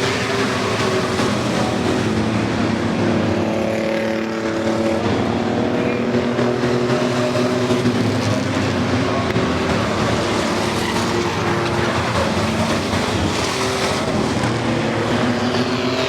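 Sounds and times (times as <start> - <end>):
racing truck engines: 0.0 - 16.0.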